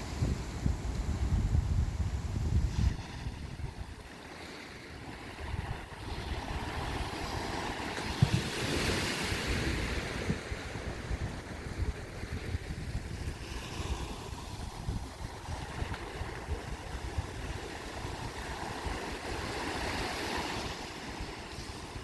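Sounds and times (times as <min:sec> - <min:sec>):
sea waves washing against rocks: 0:00.0 - 0:22.0
wind buffeting microphone: 0:00.0 - 0:22.0.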